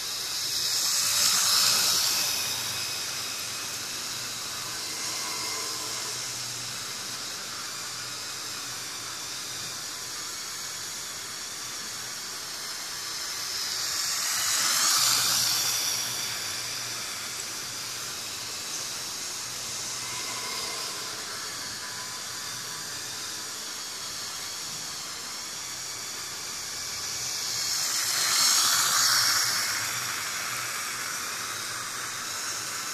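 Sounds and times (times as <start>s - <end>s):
model train whirring: 0.0s - 32.9s.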